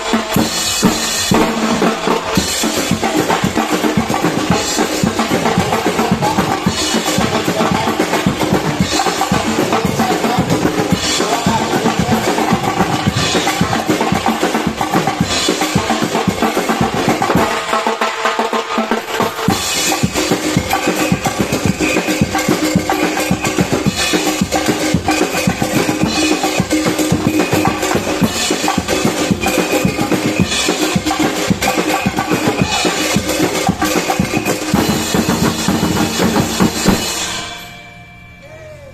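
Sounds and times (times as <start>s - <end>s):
bass drums: 0.0s - 17.7s, 19.3s - 37.5s
snare drums: 0.0s - 37.5s
pitched percussion part: 0.0s - 38.9s.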